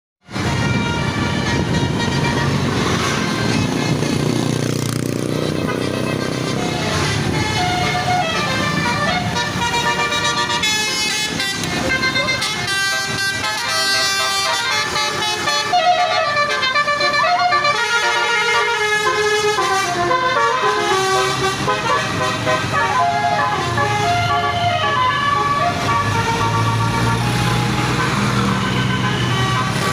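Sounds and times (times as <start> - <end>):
multi-tone air horns playing tune: 0.3 - 29.9.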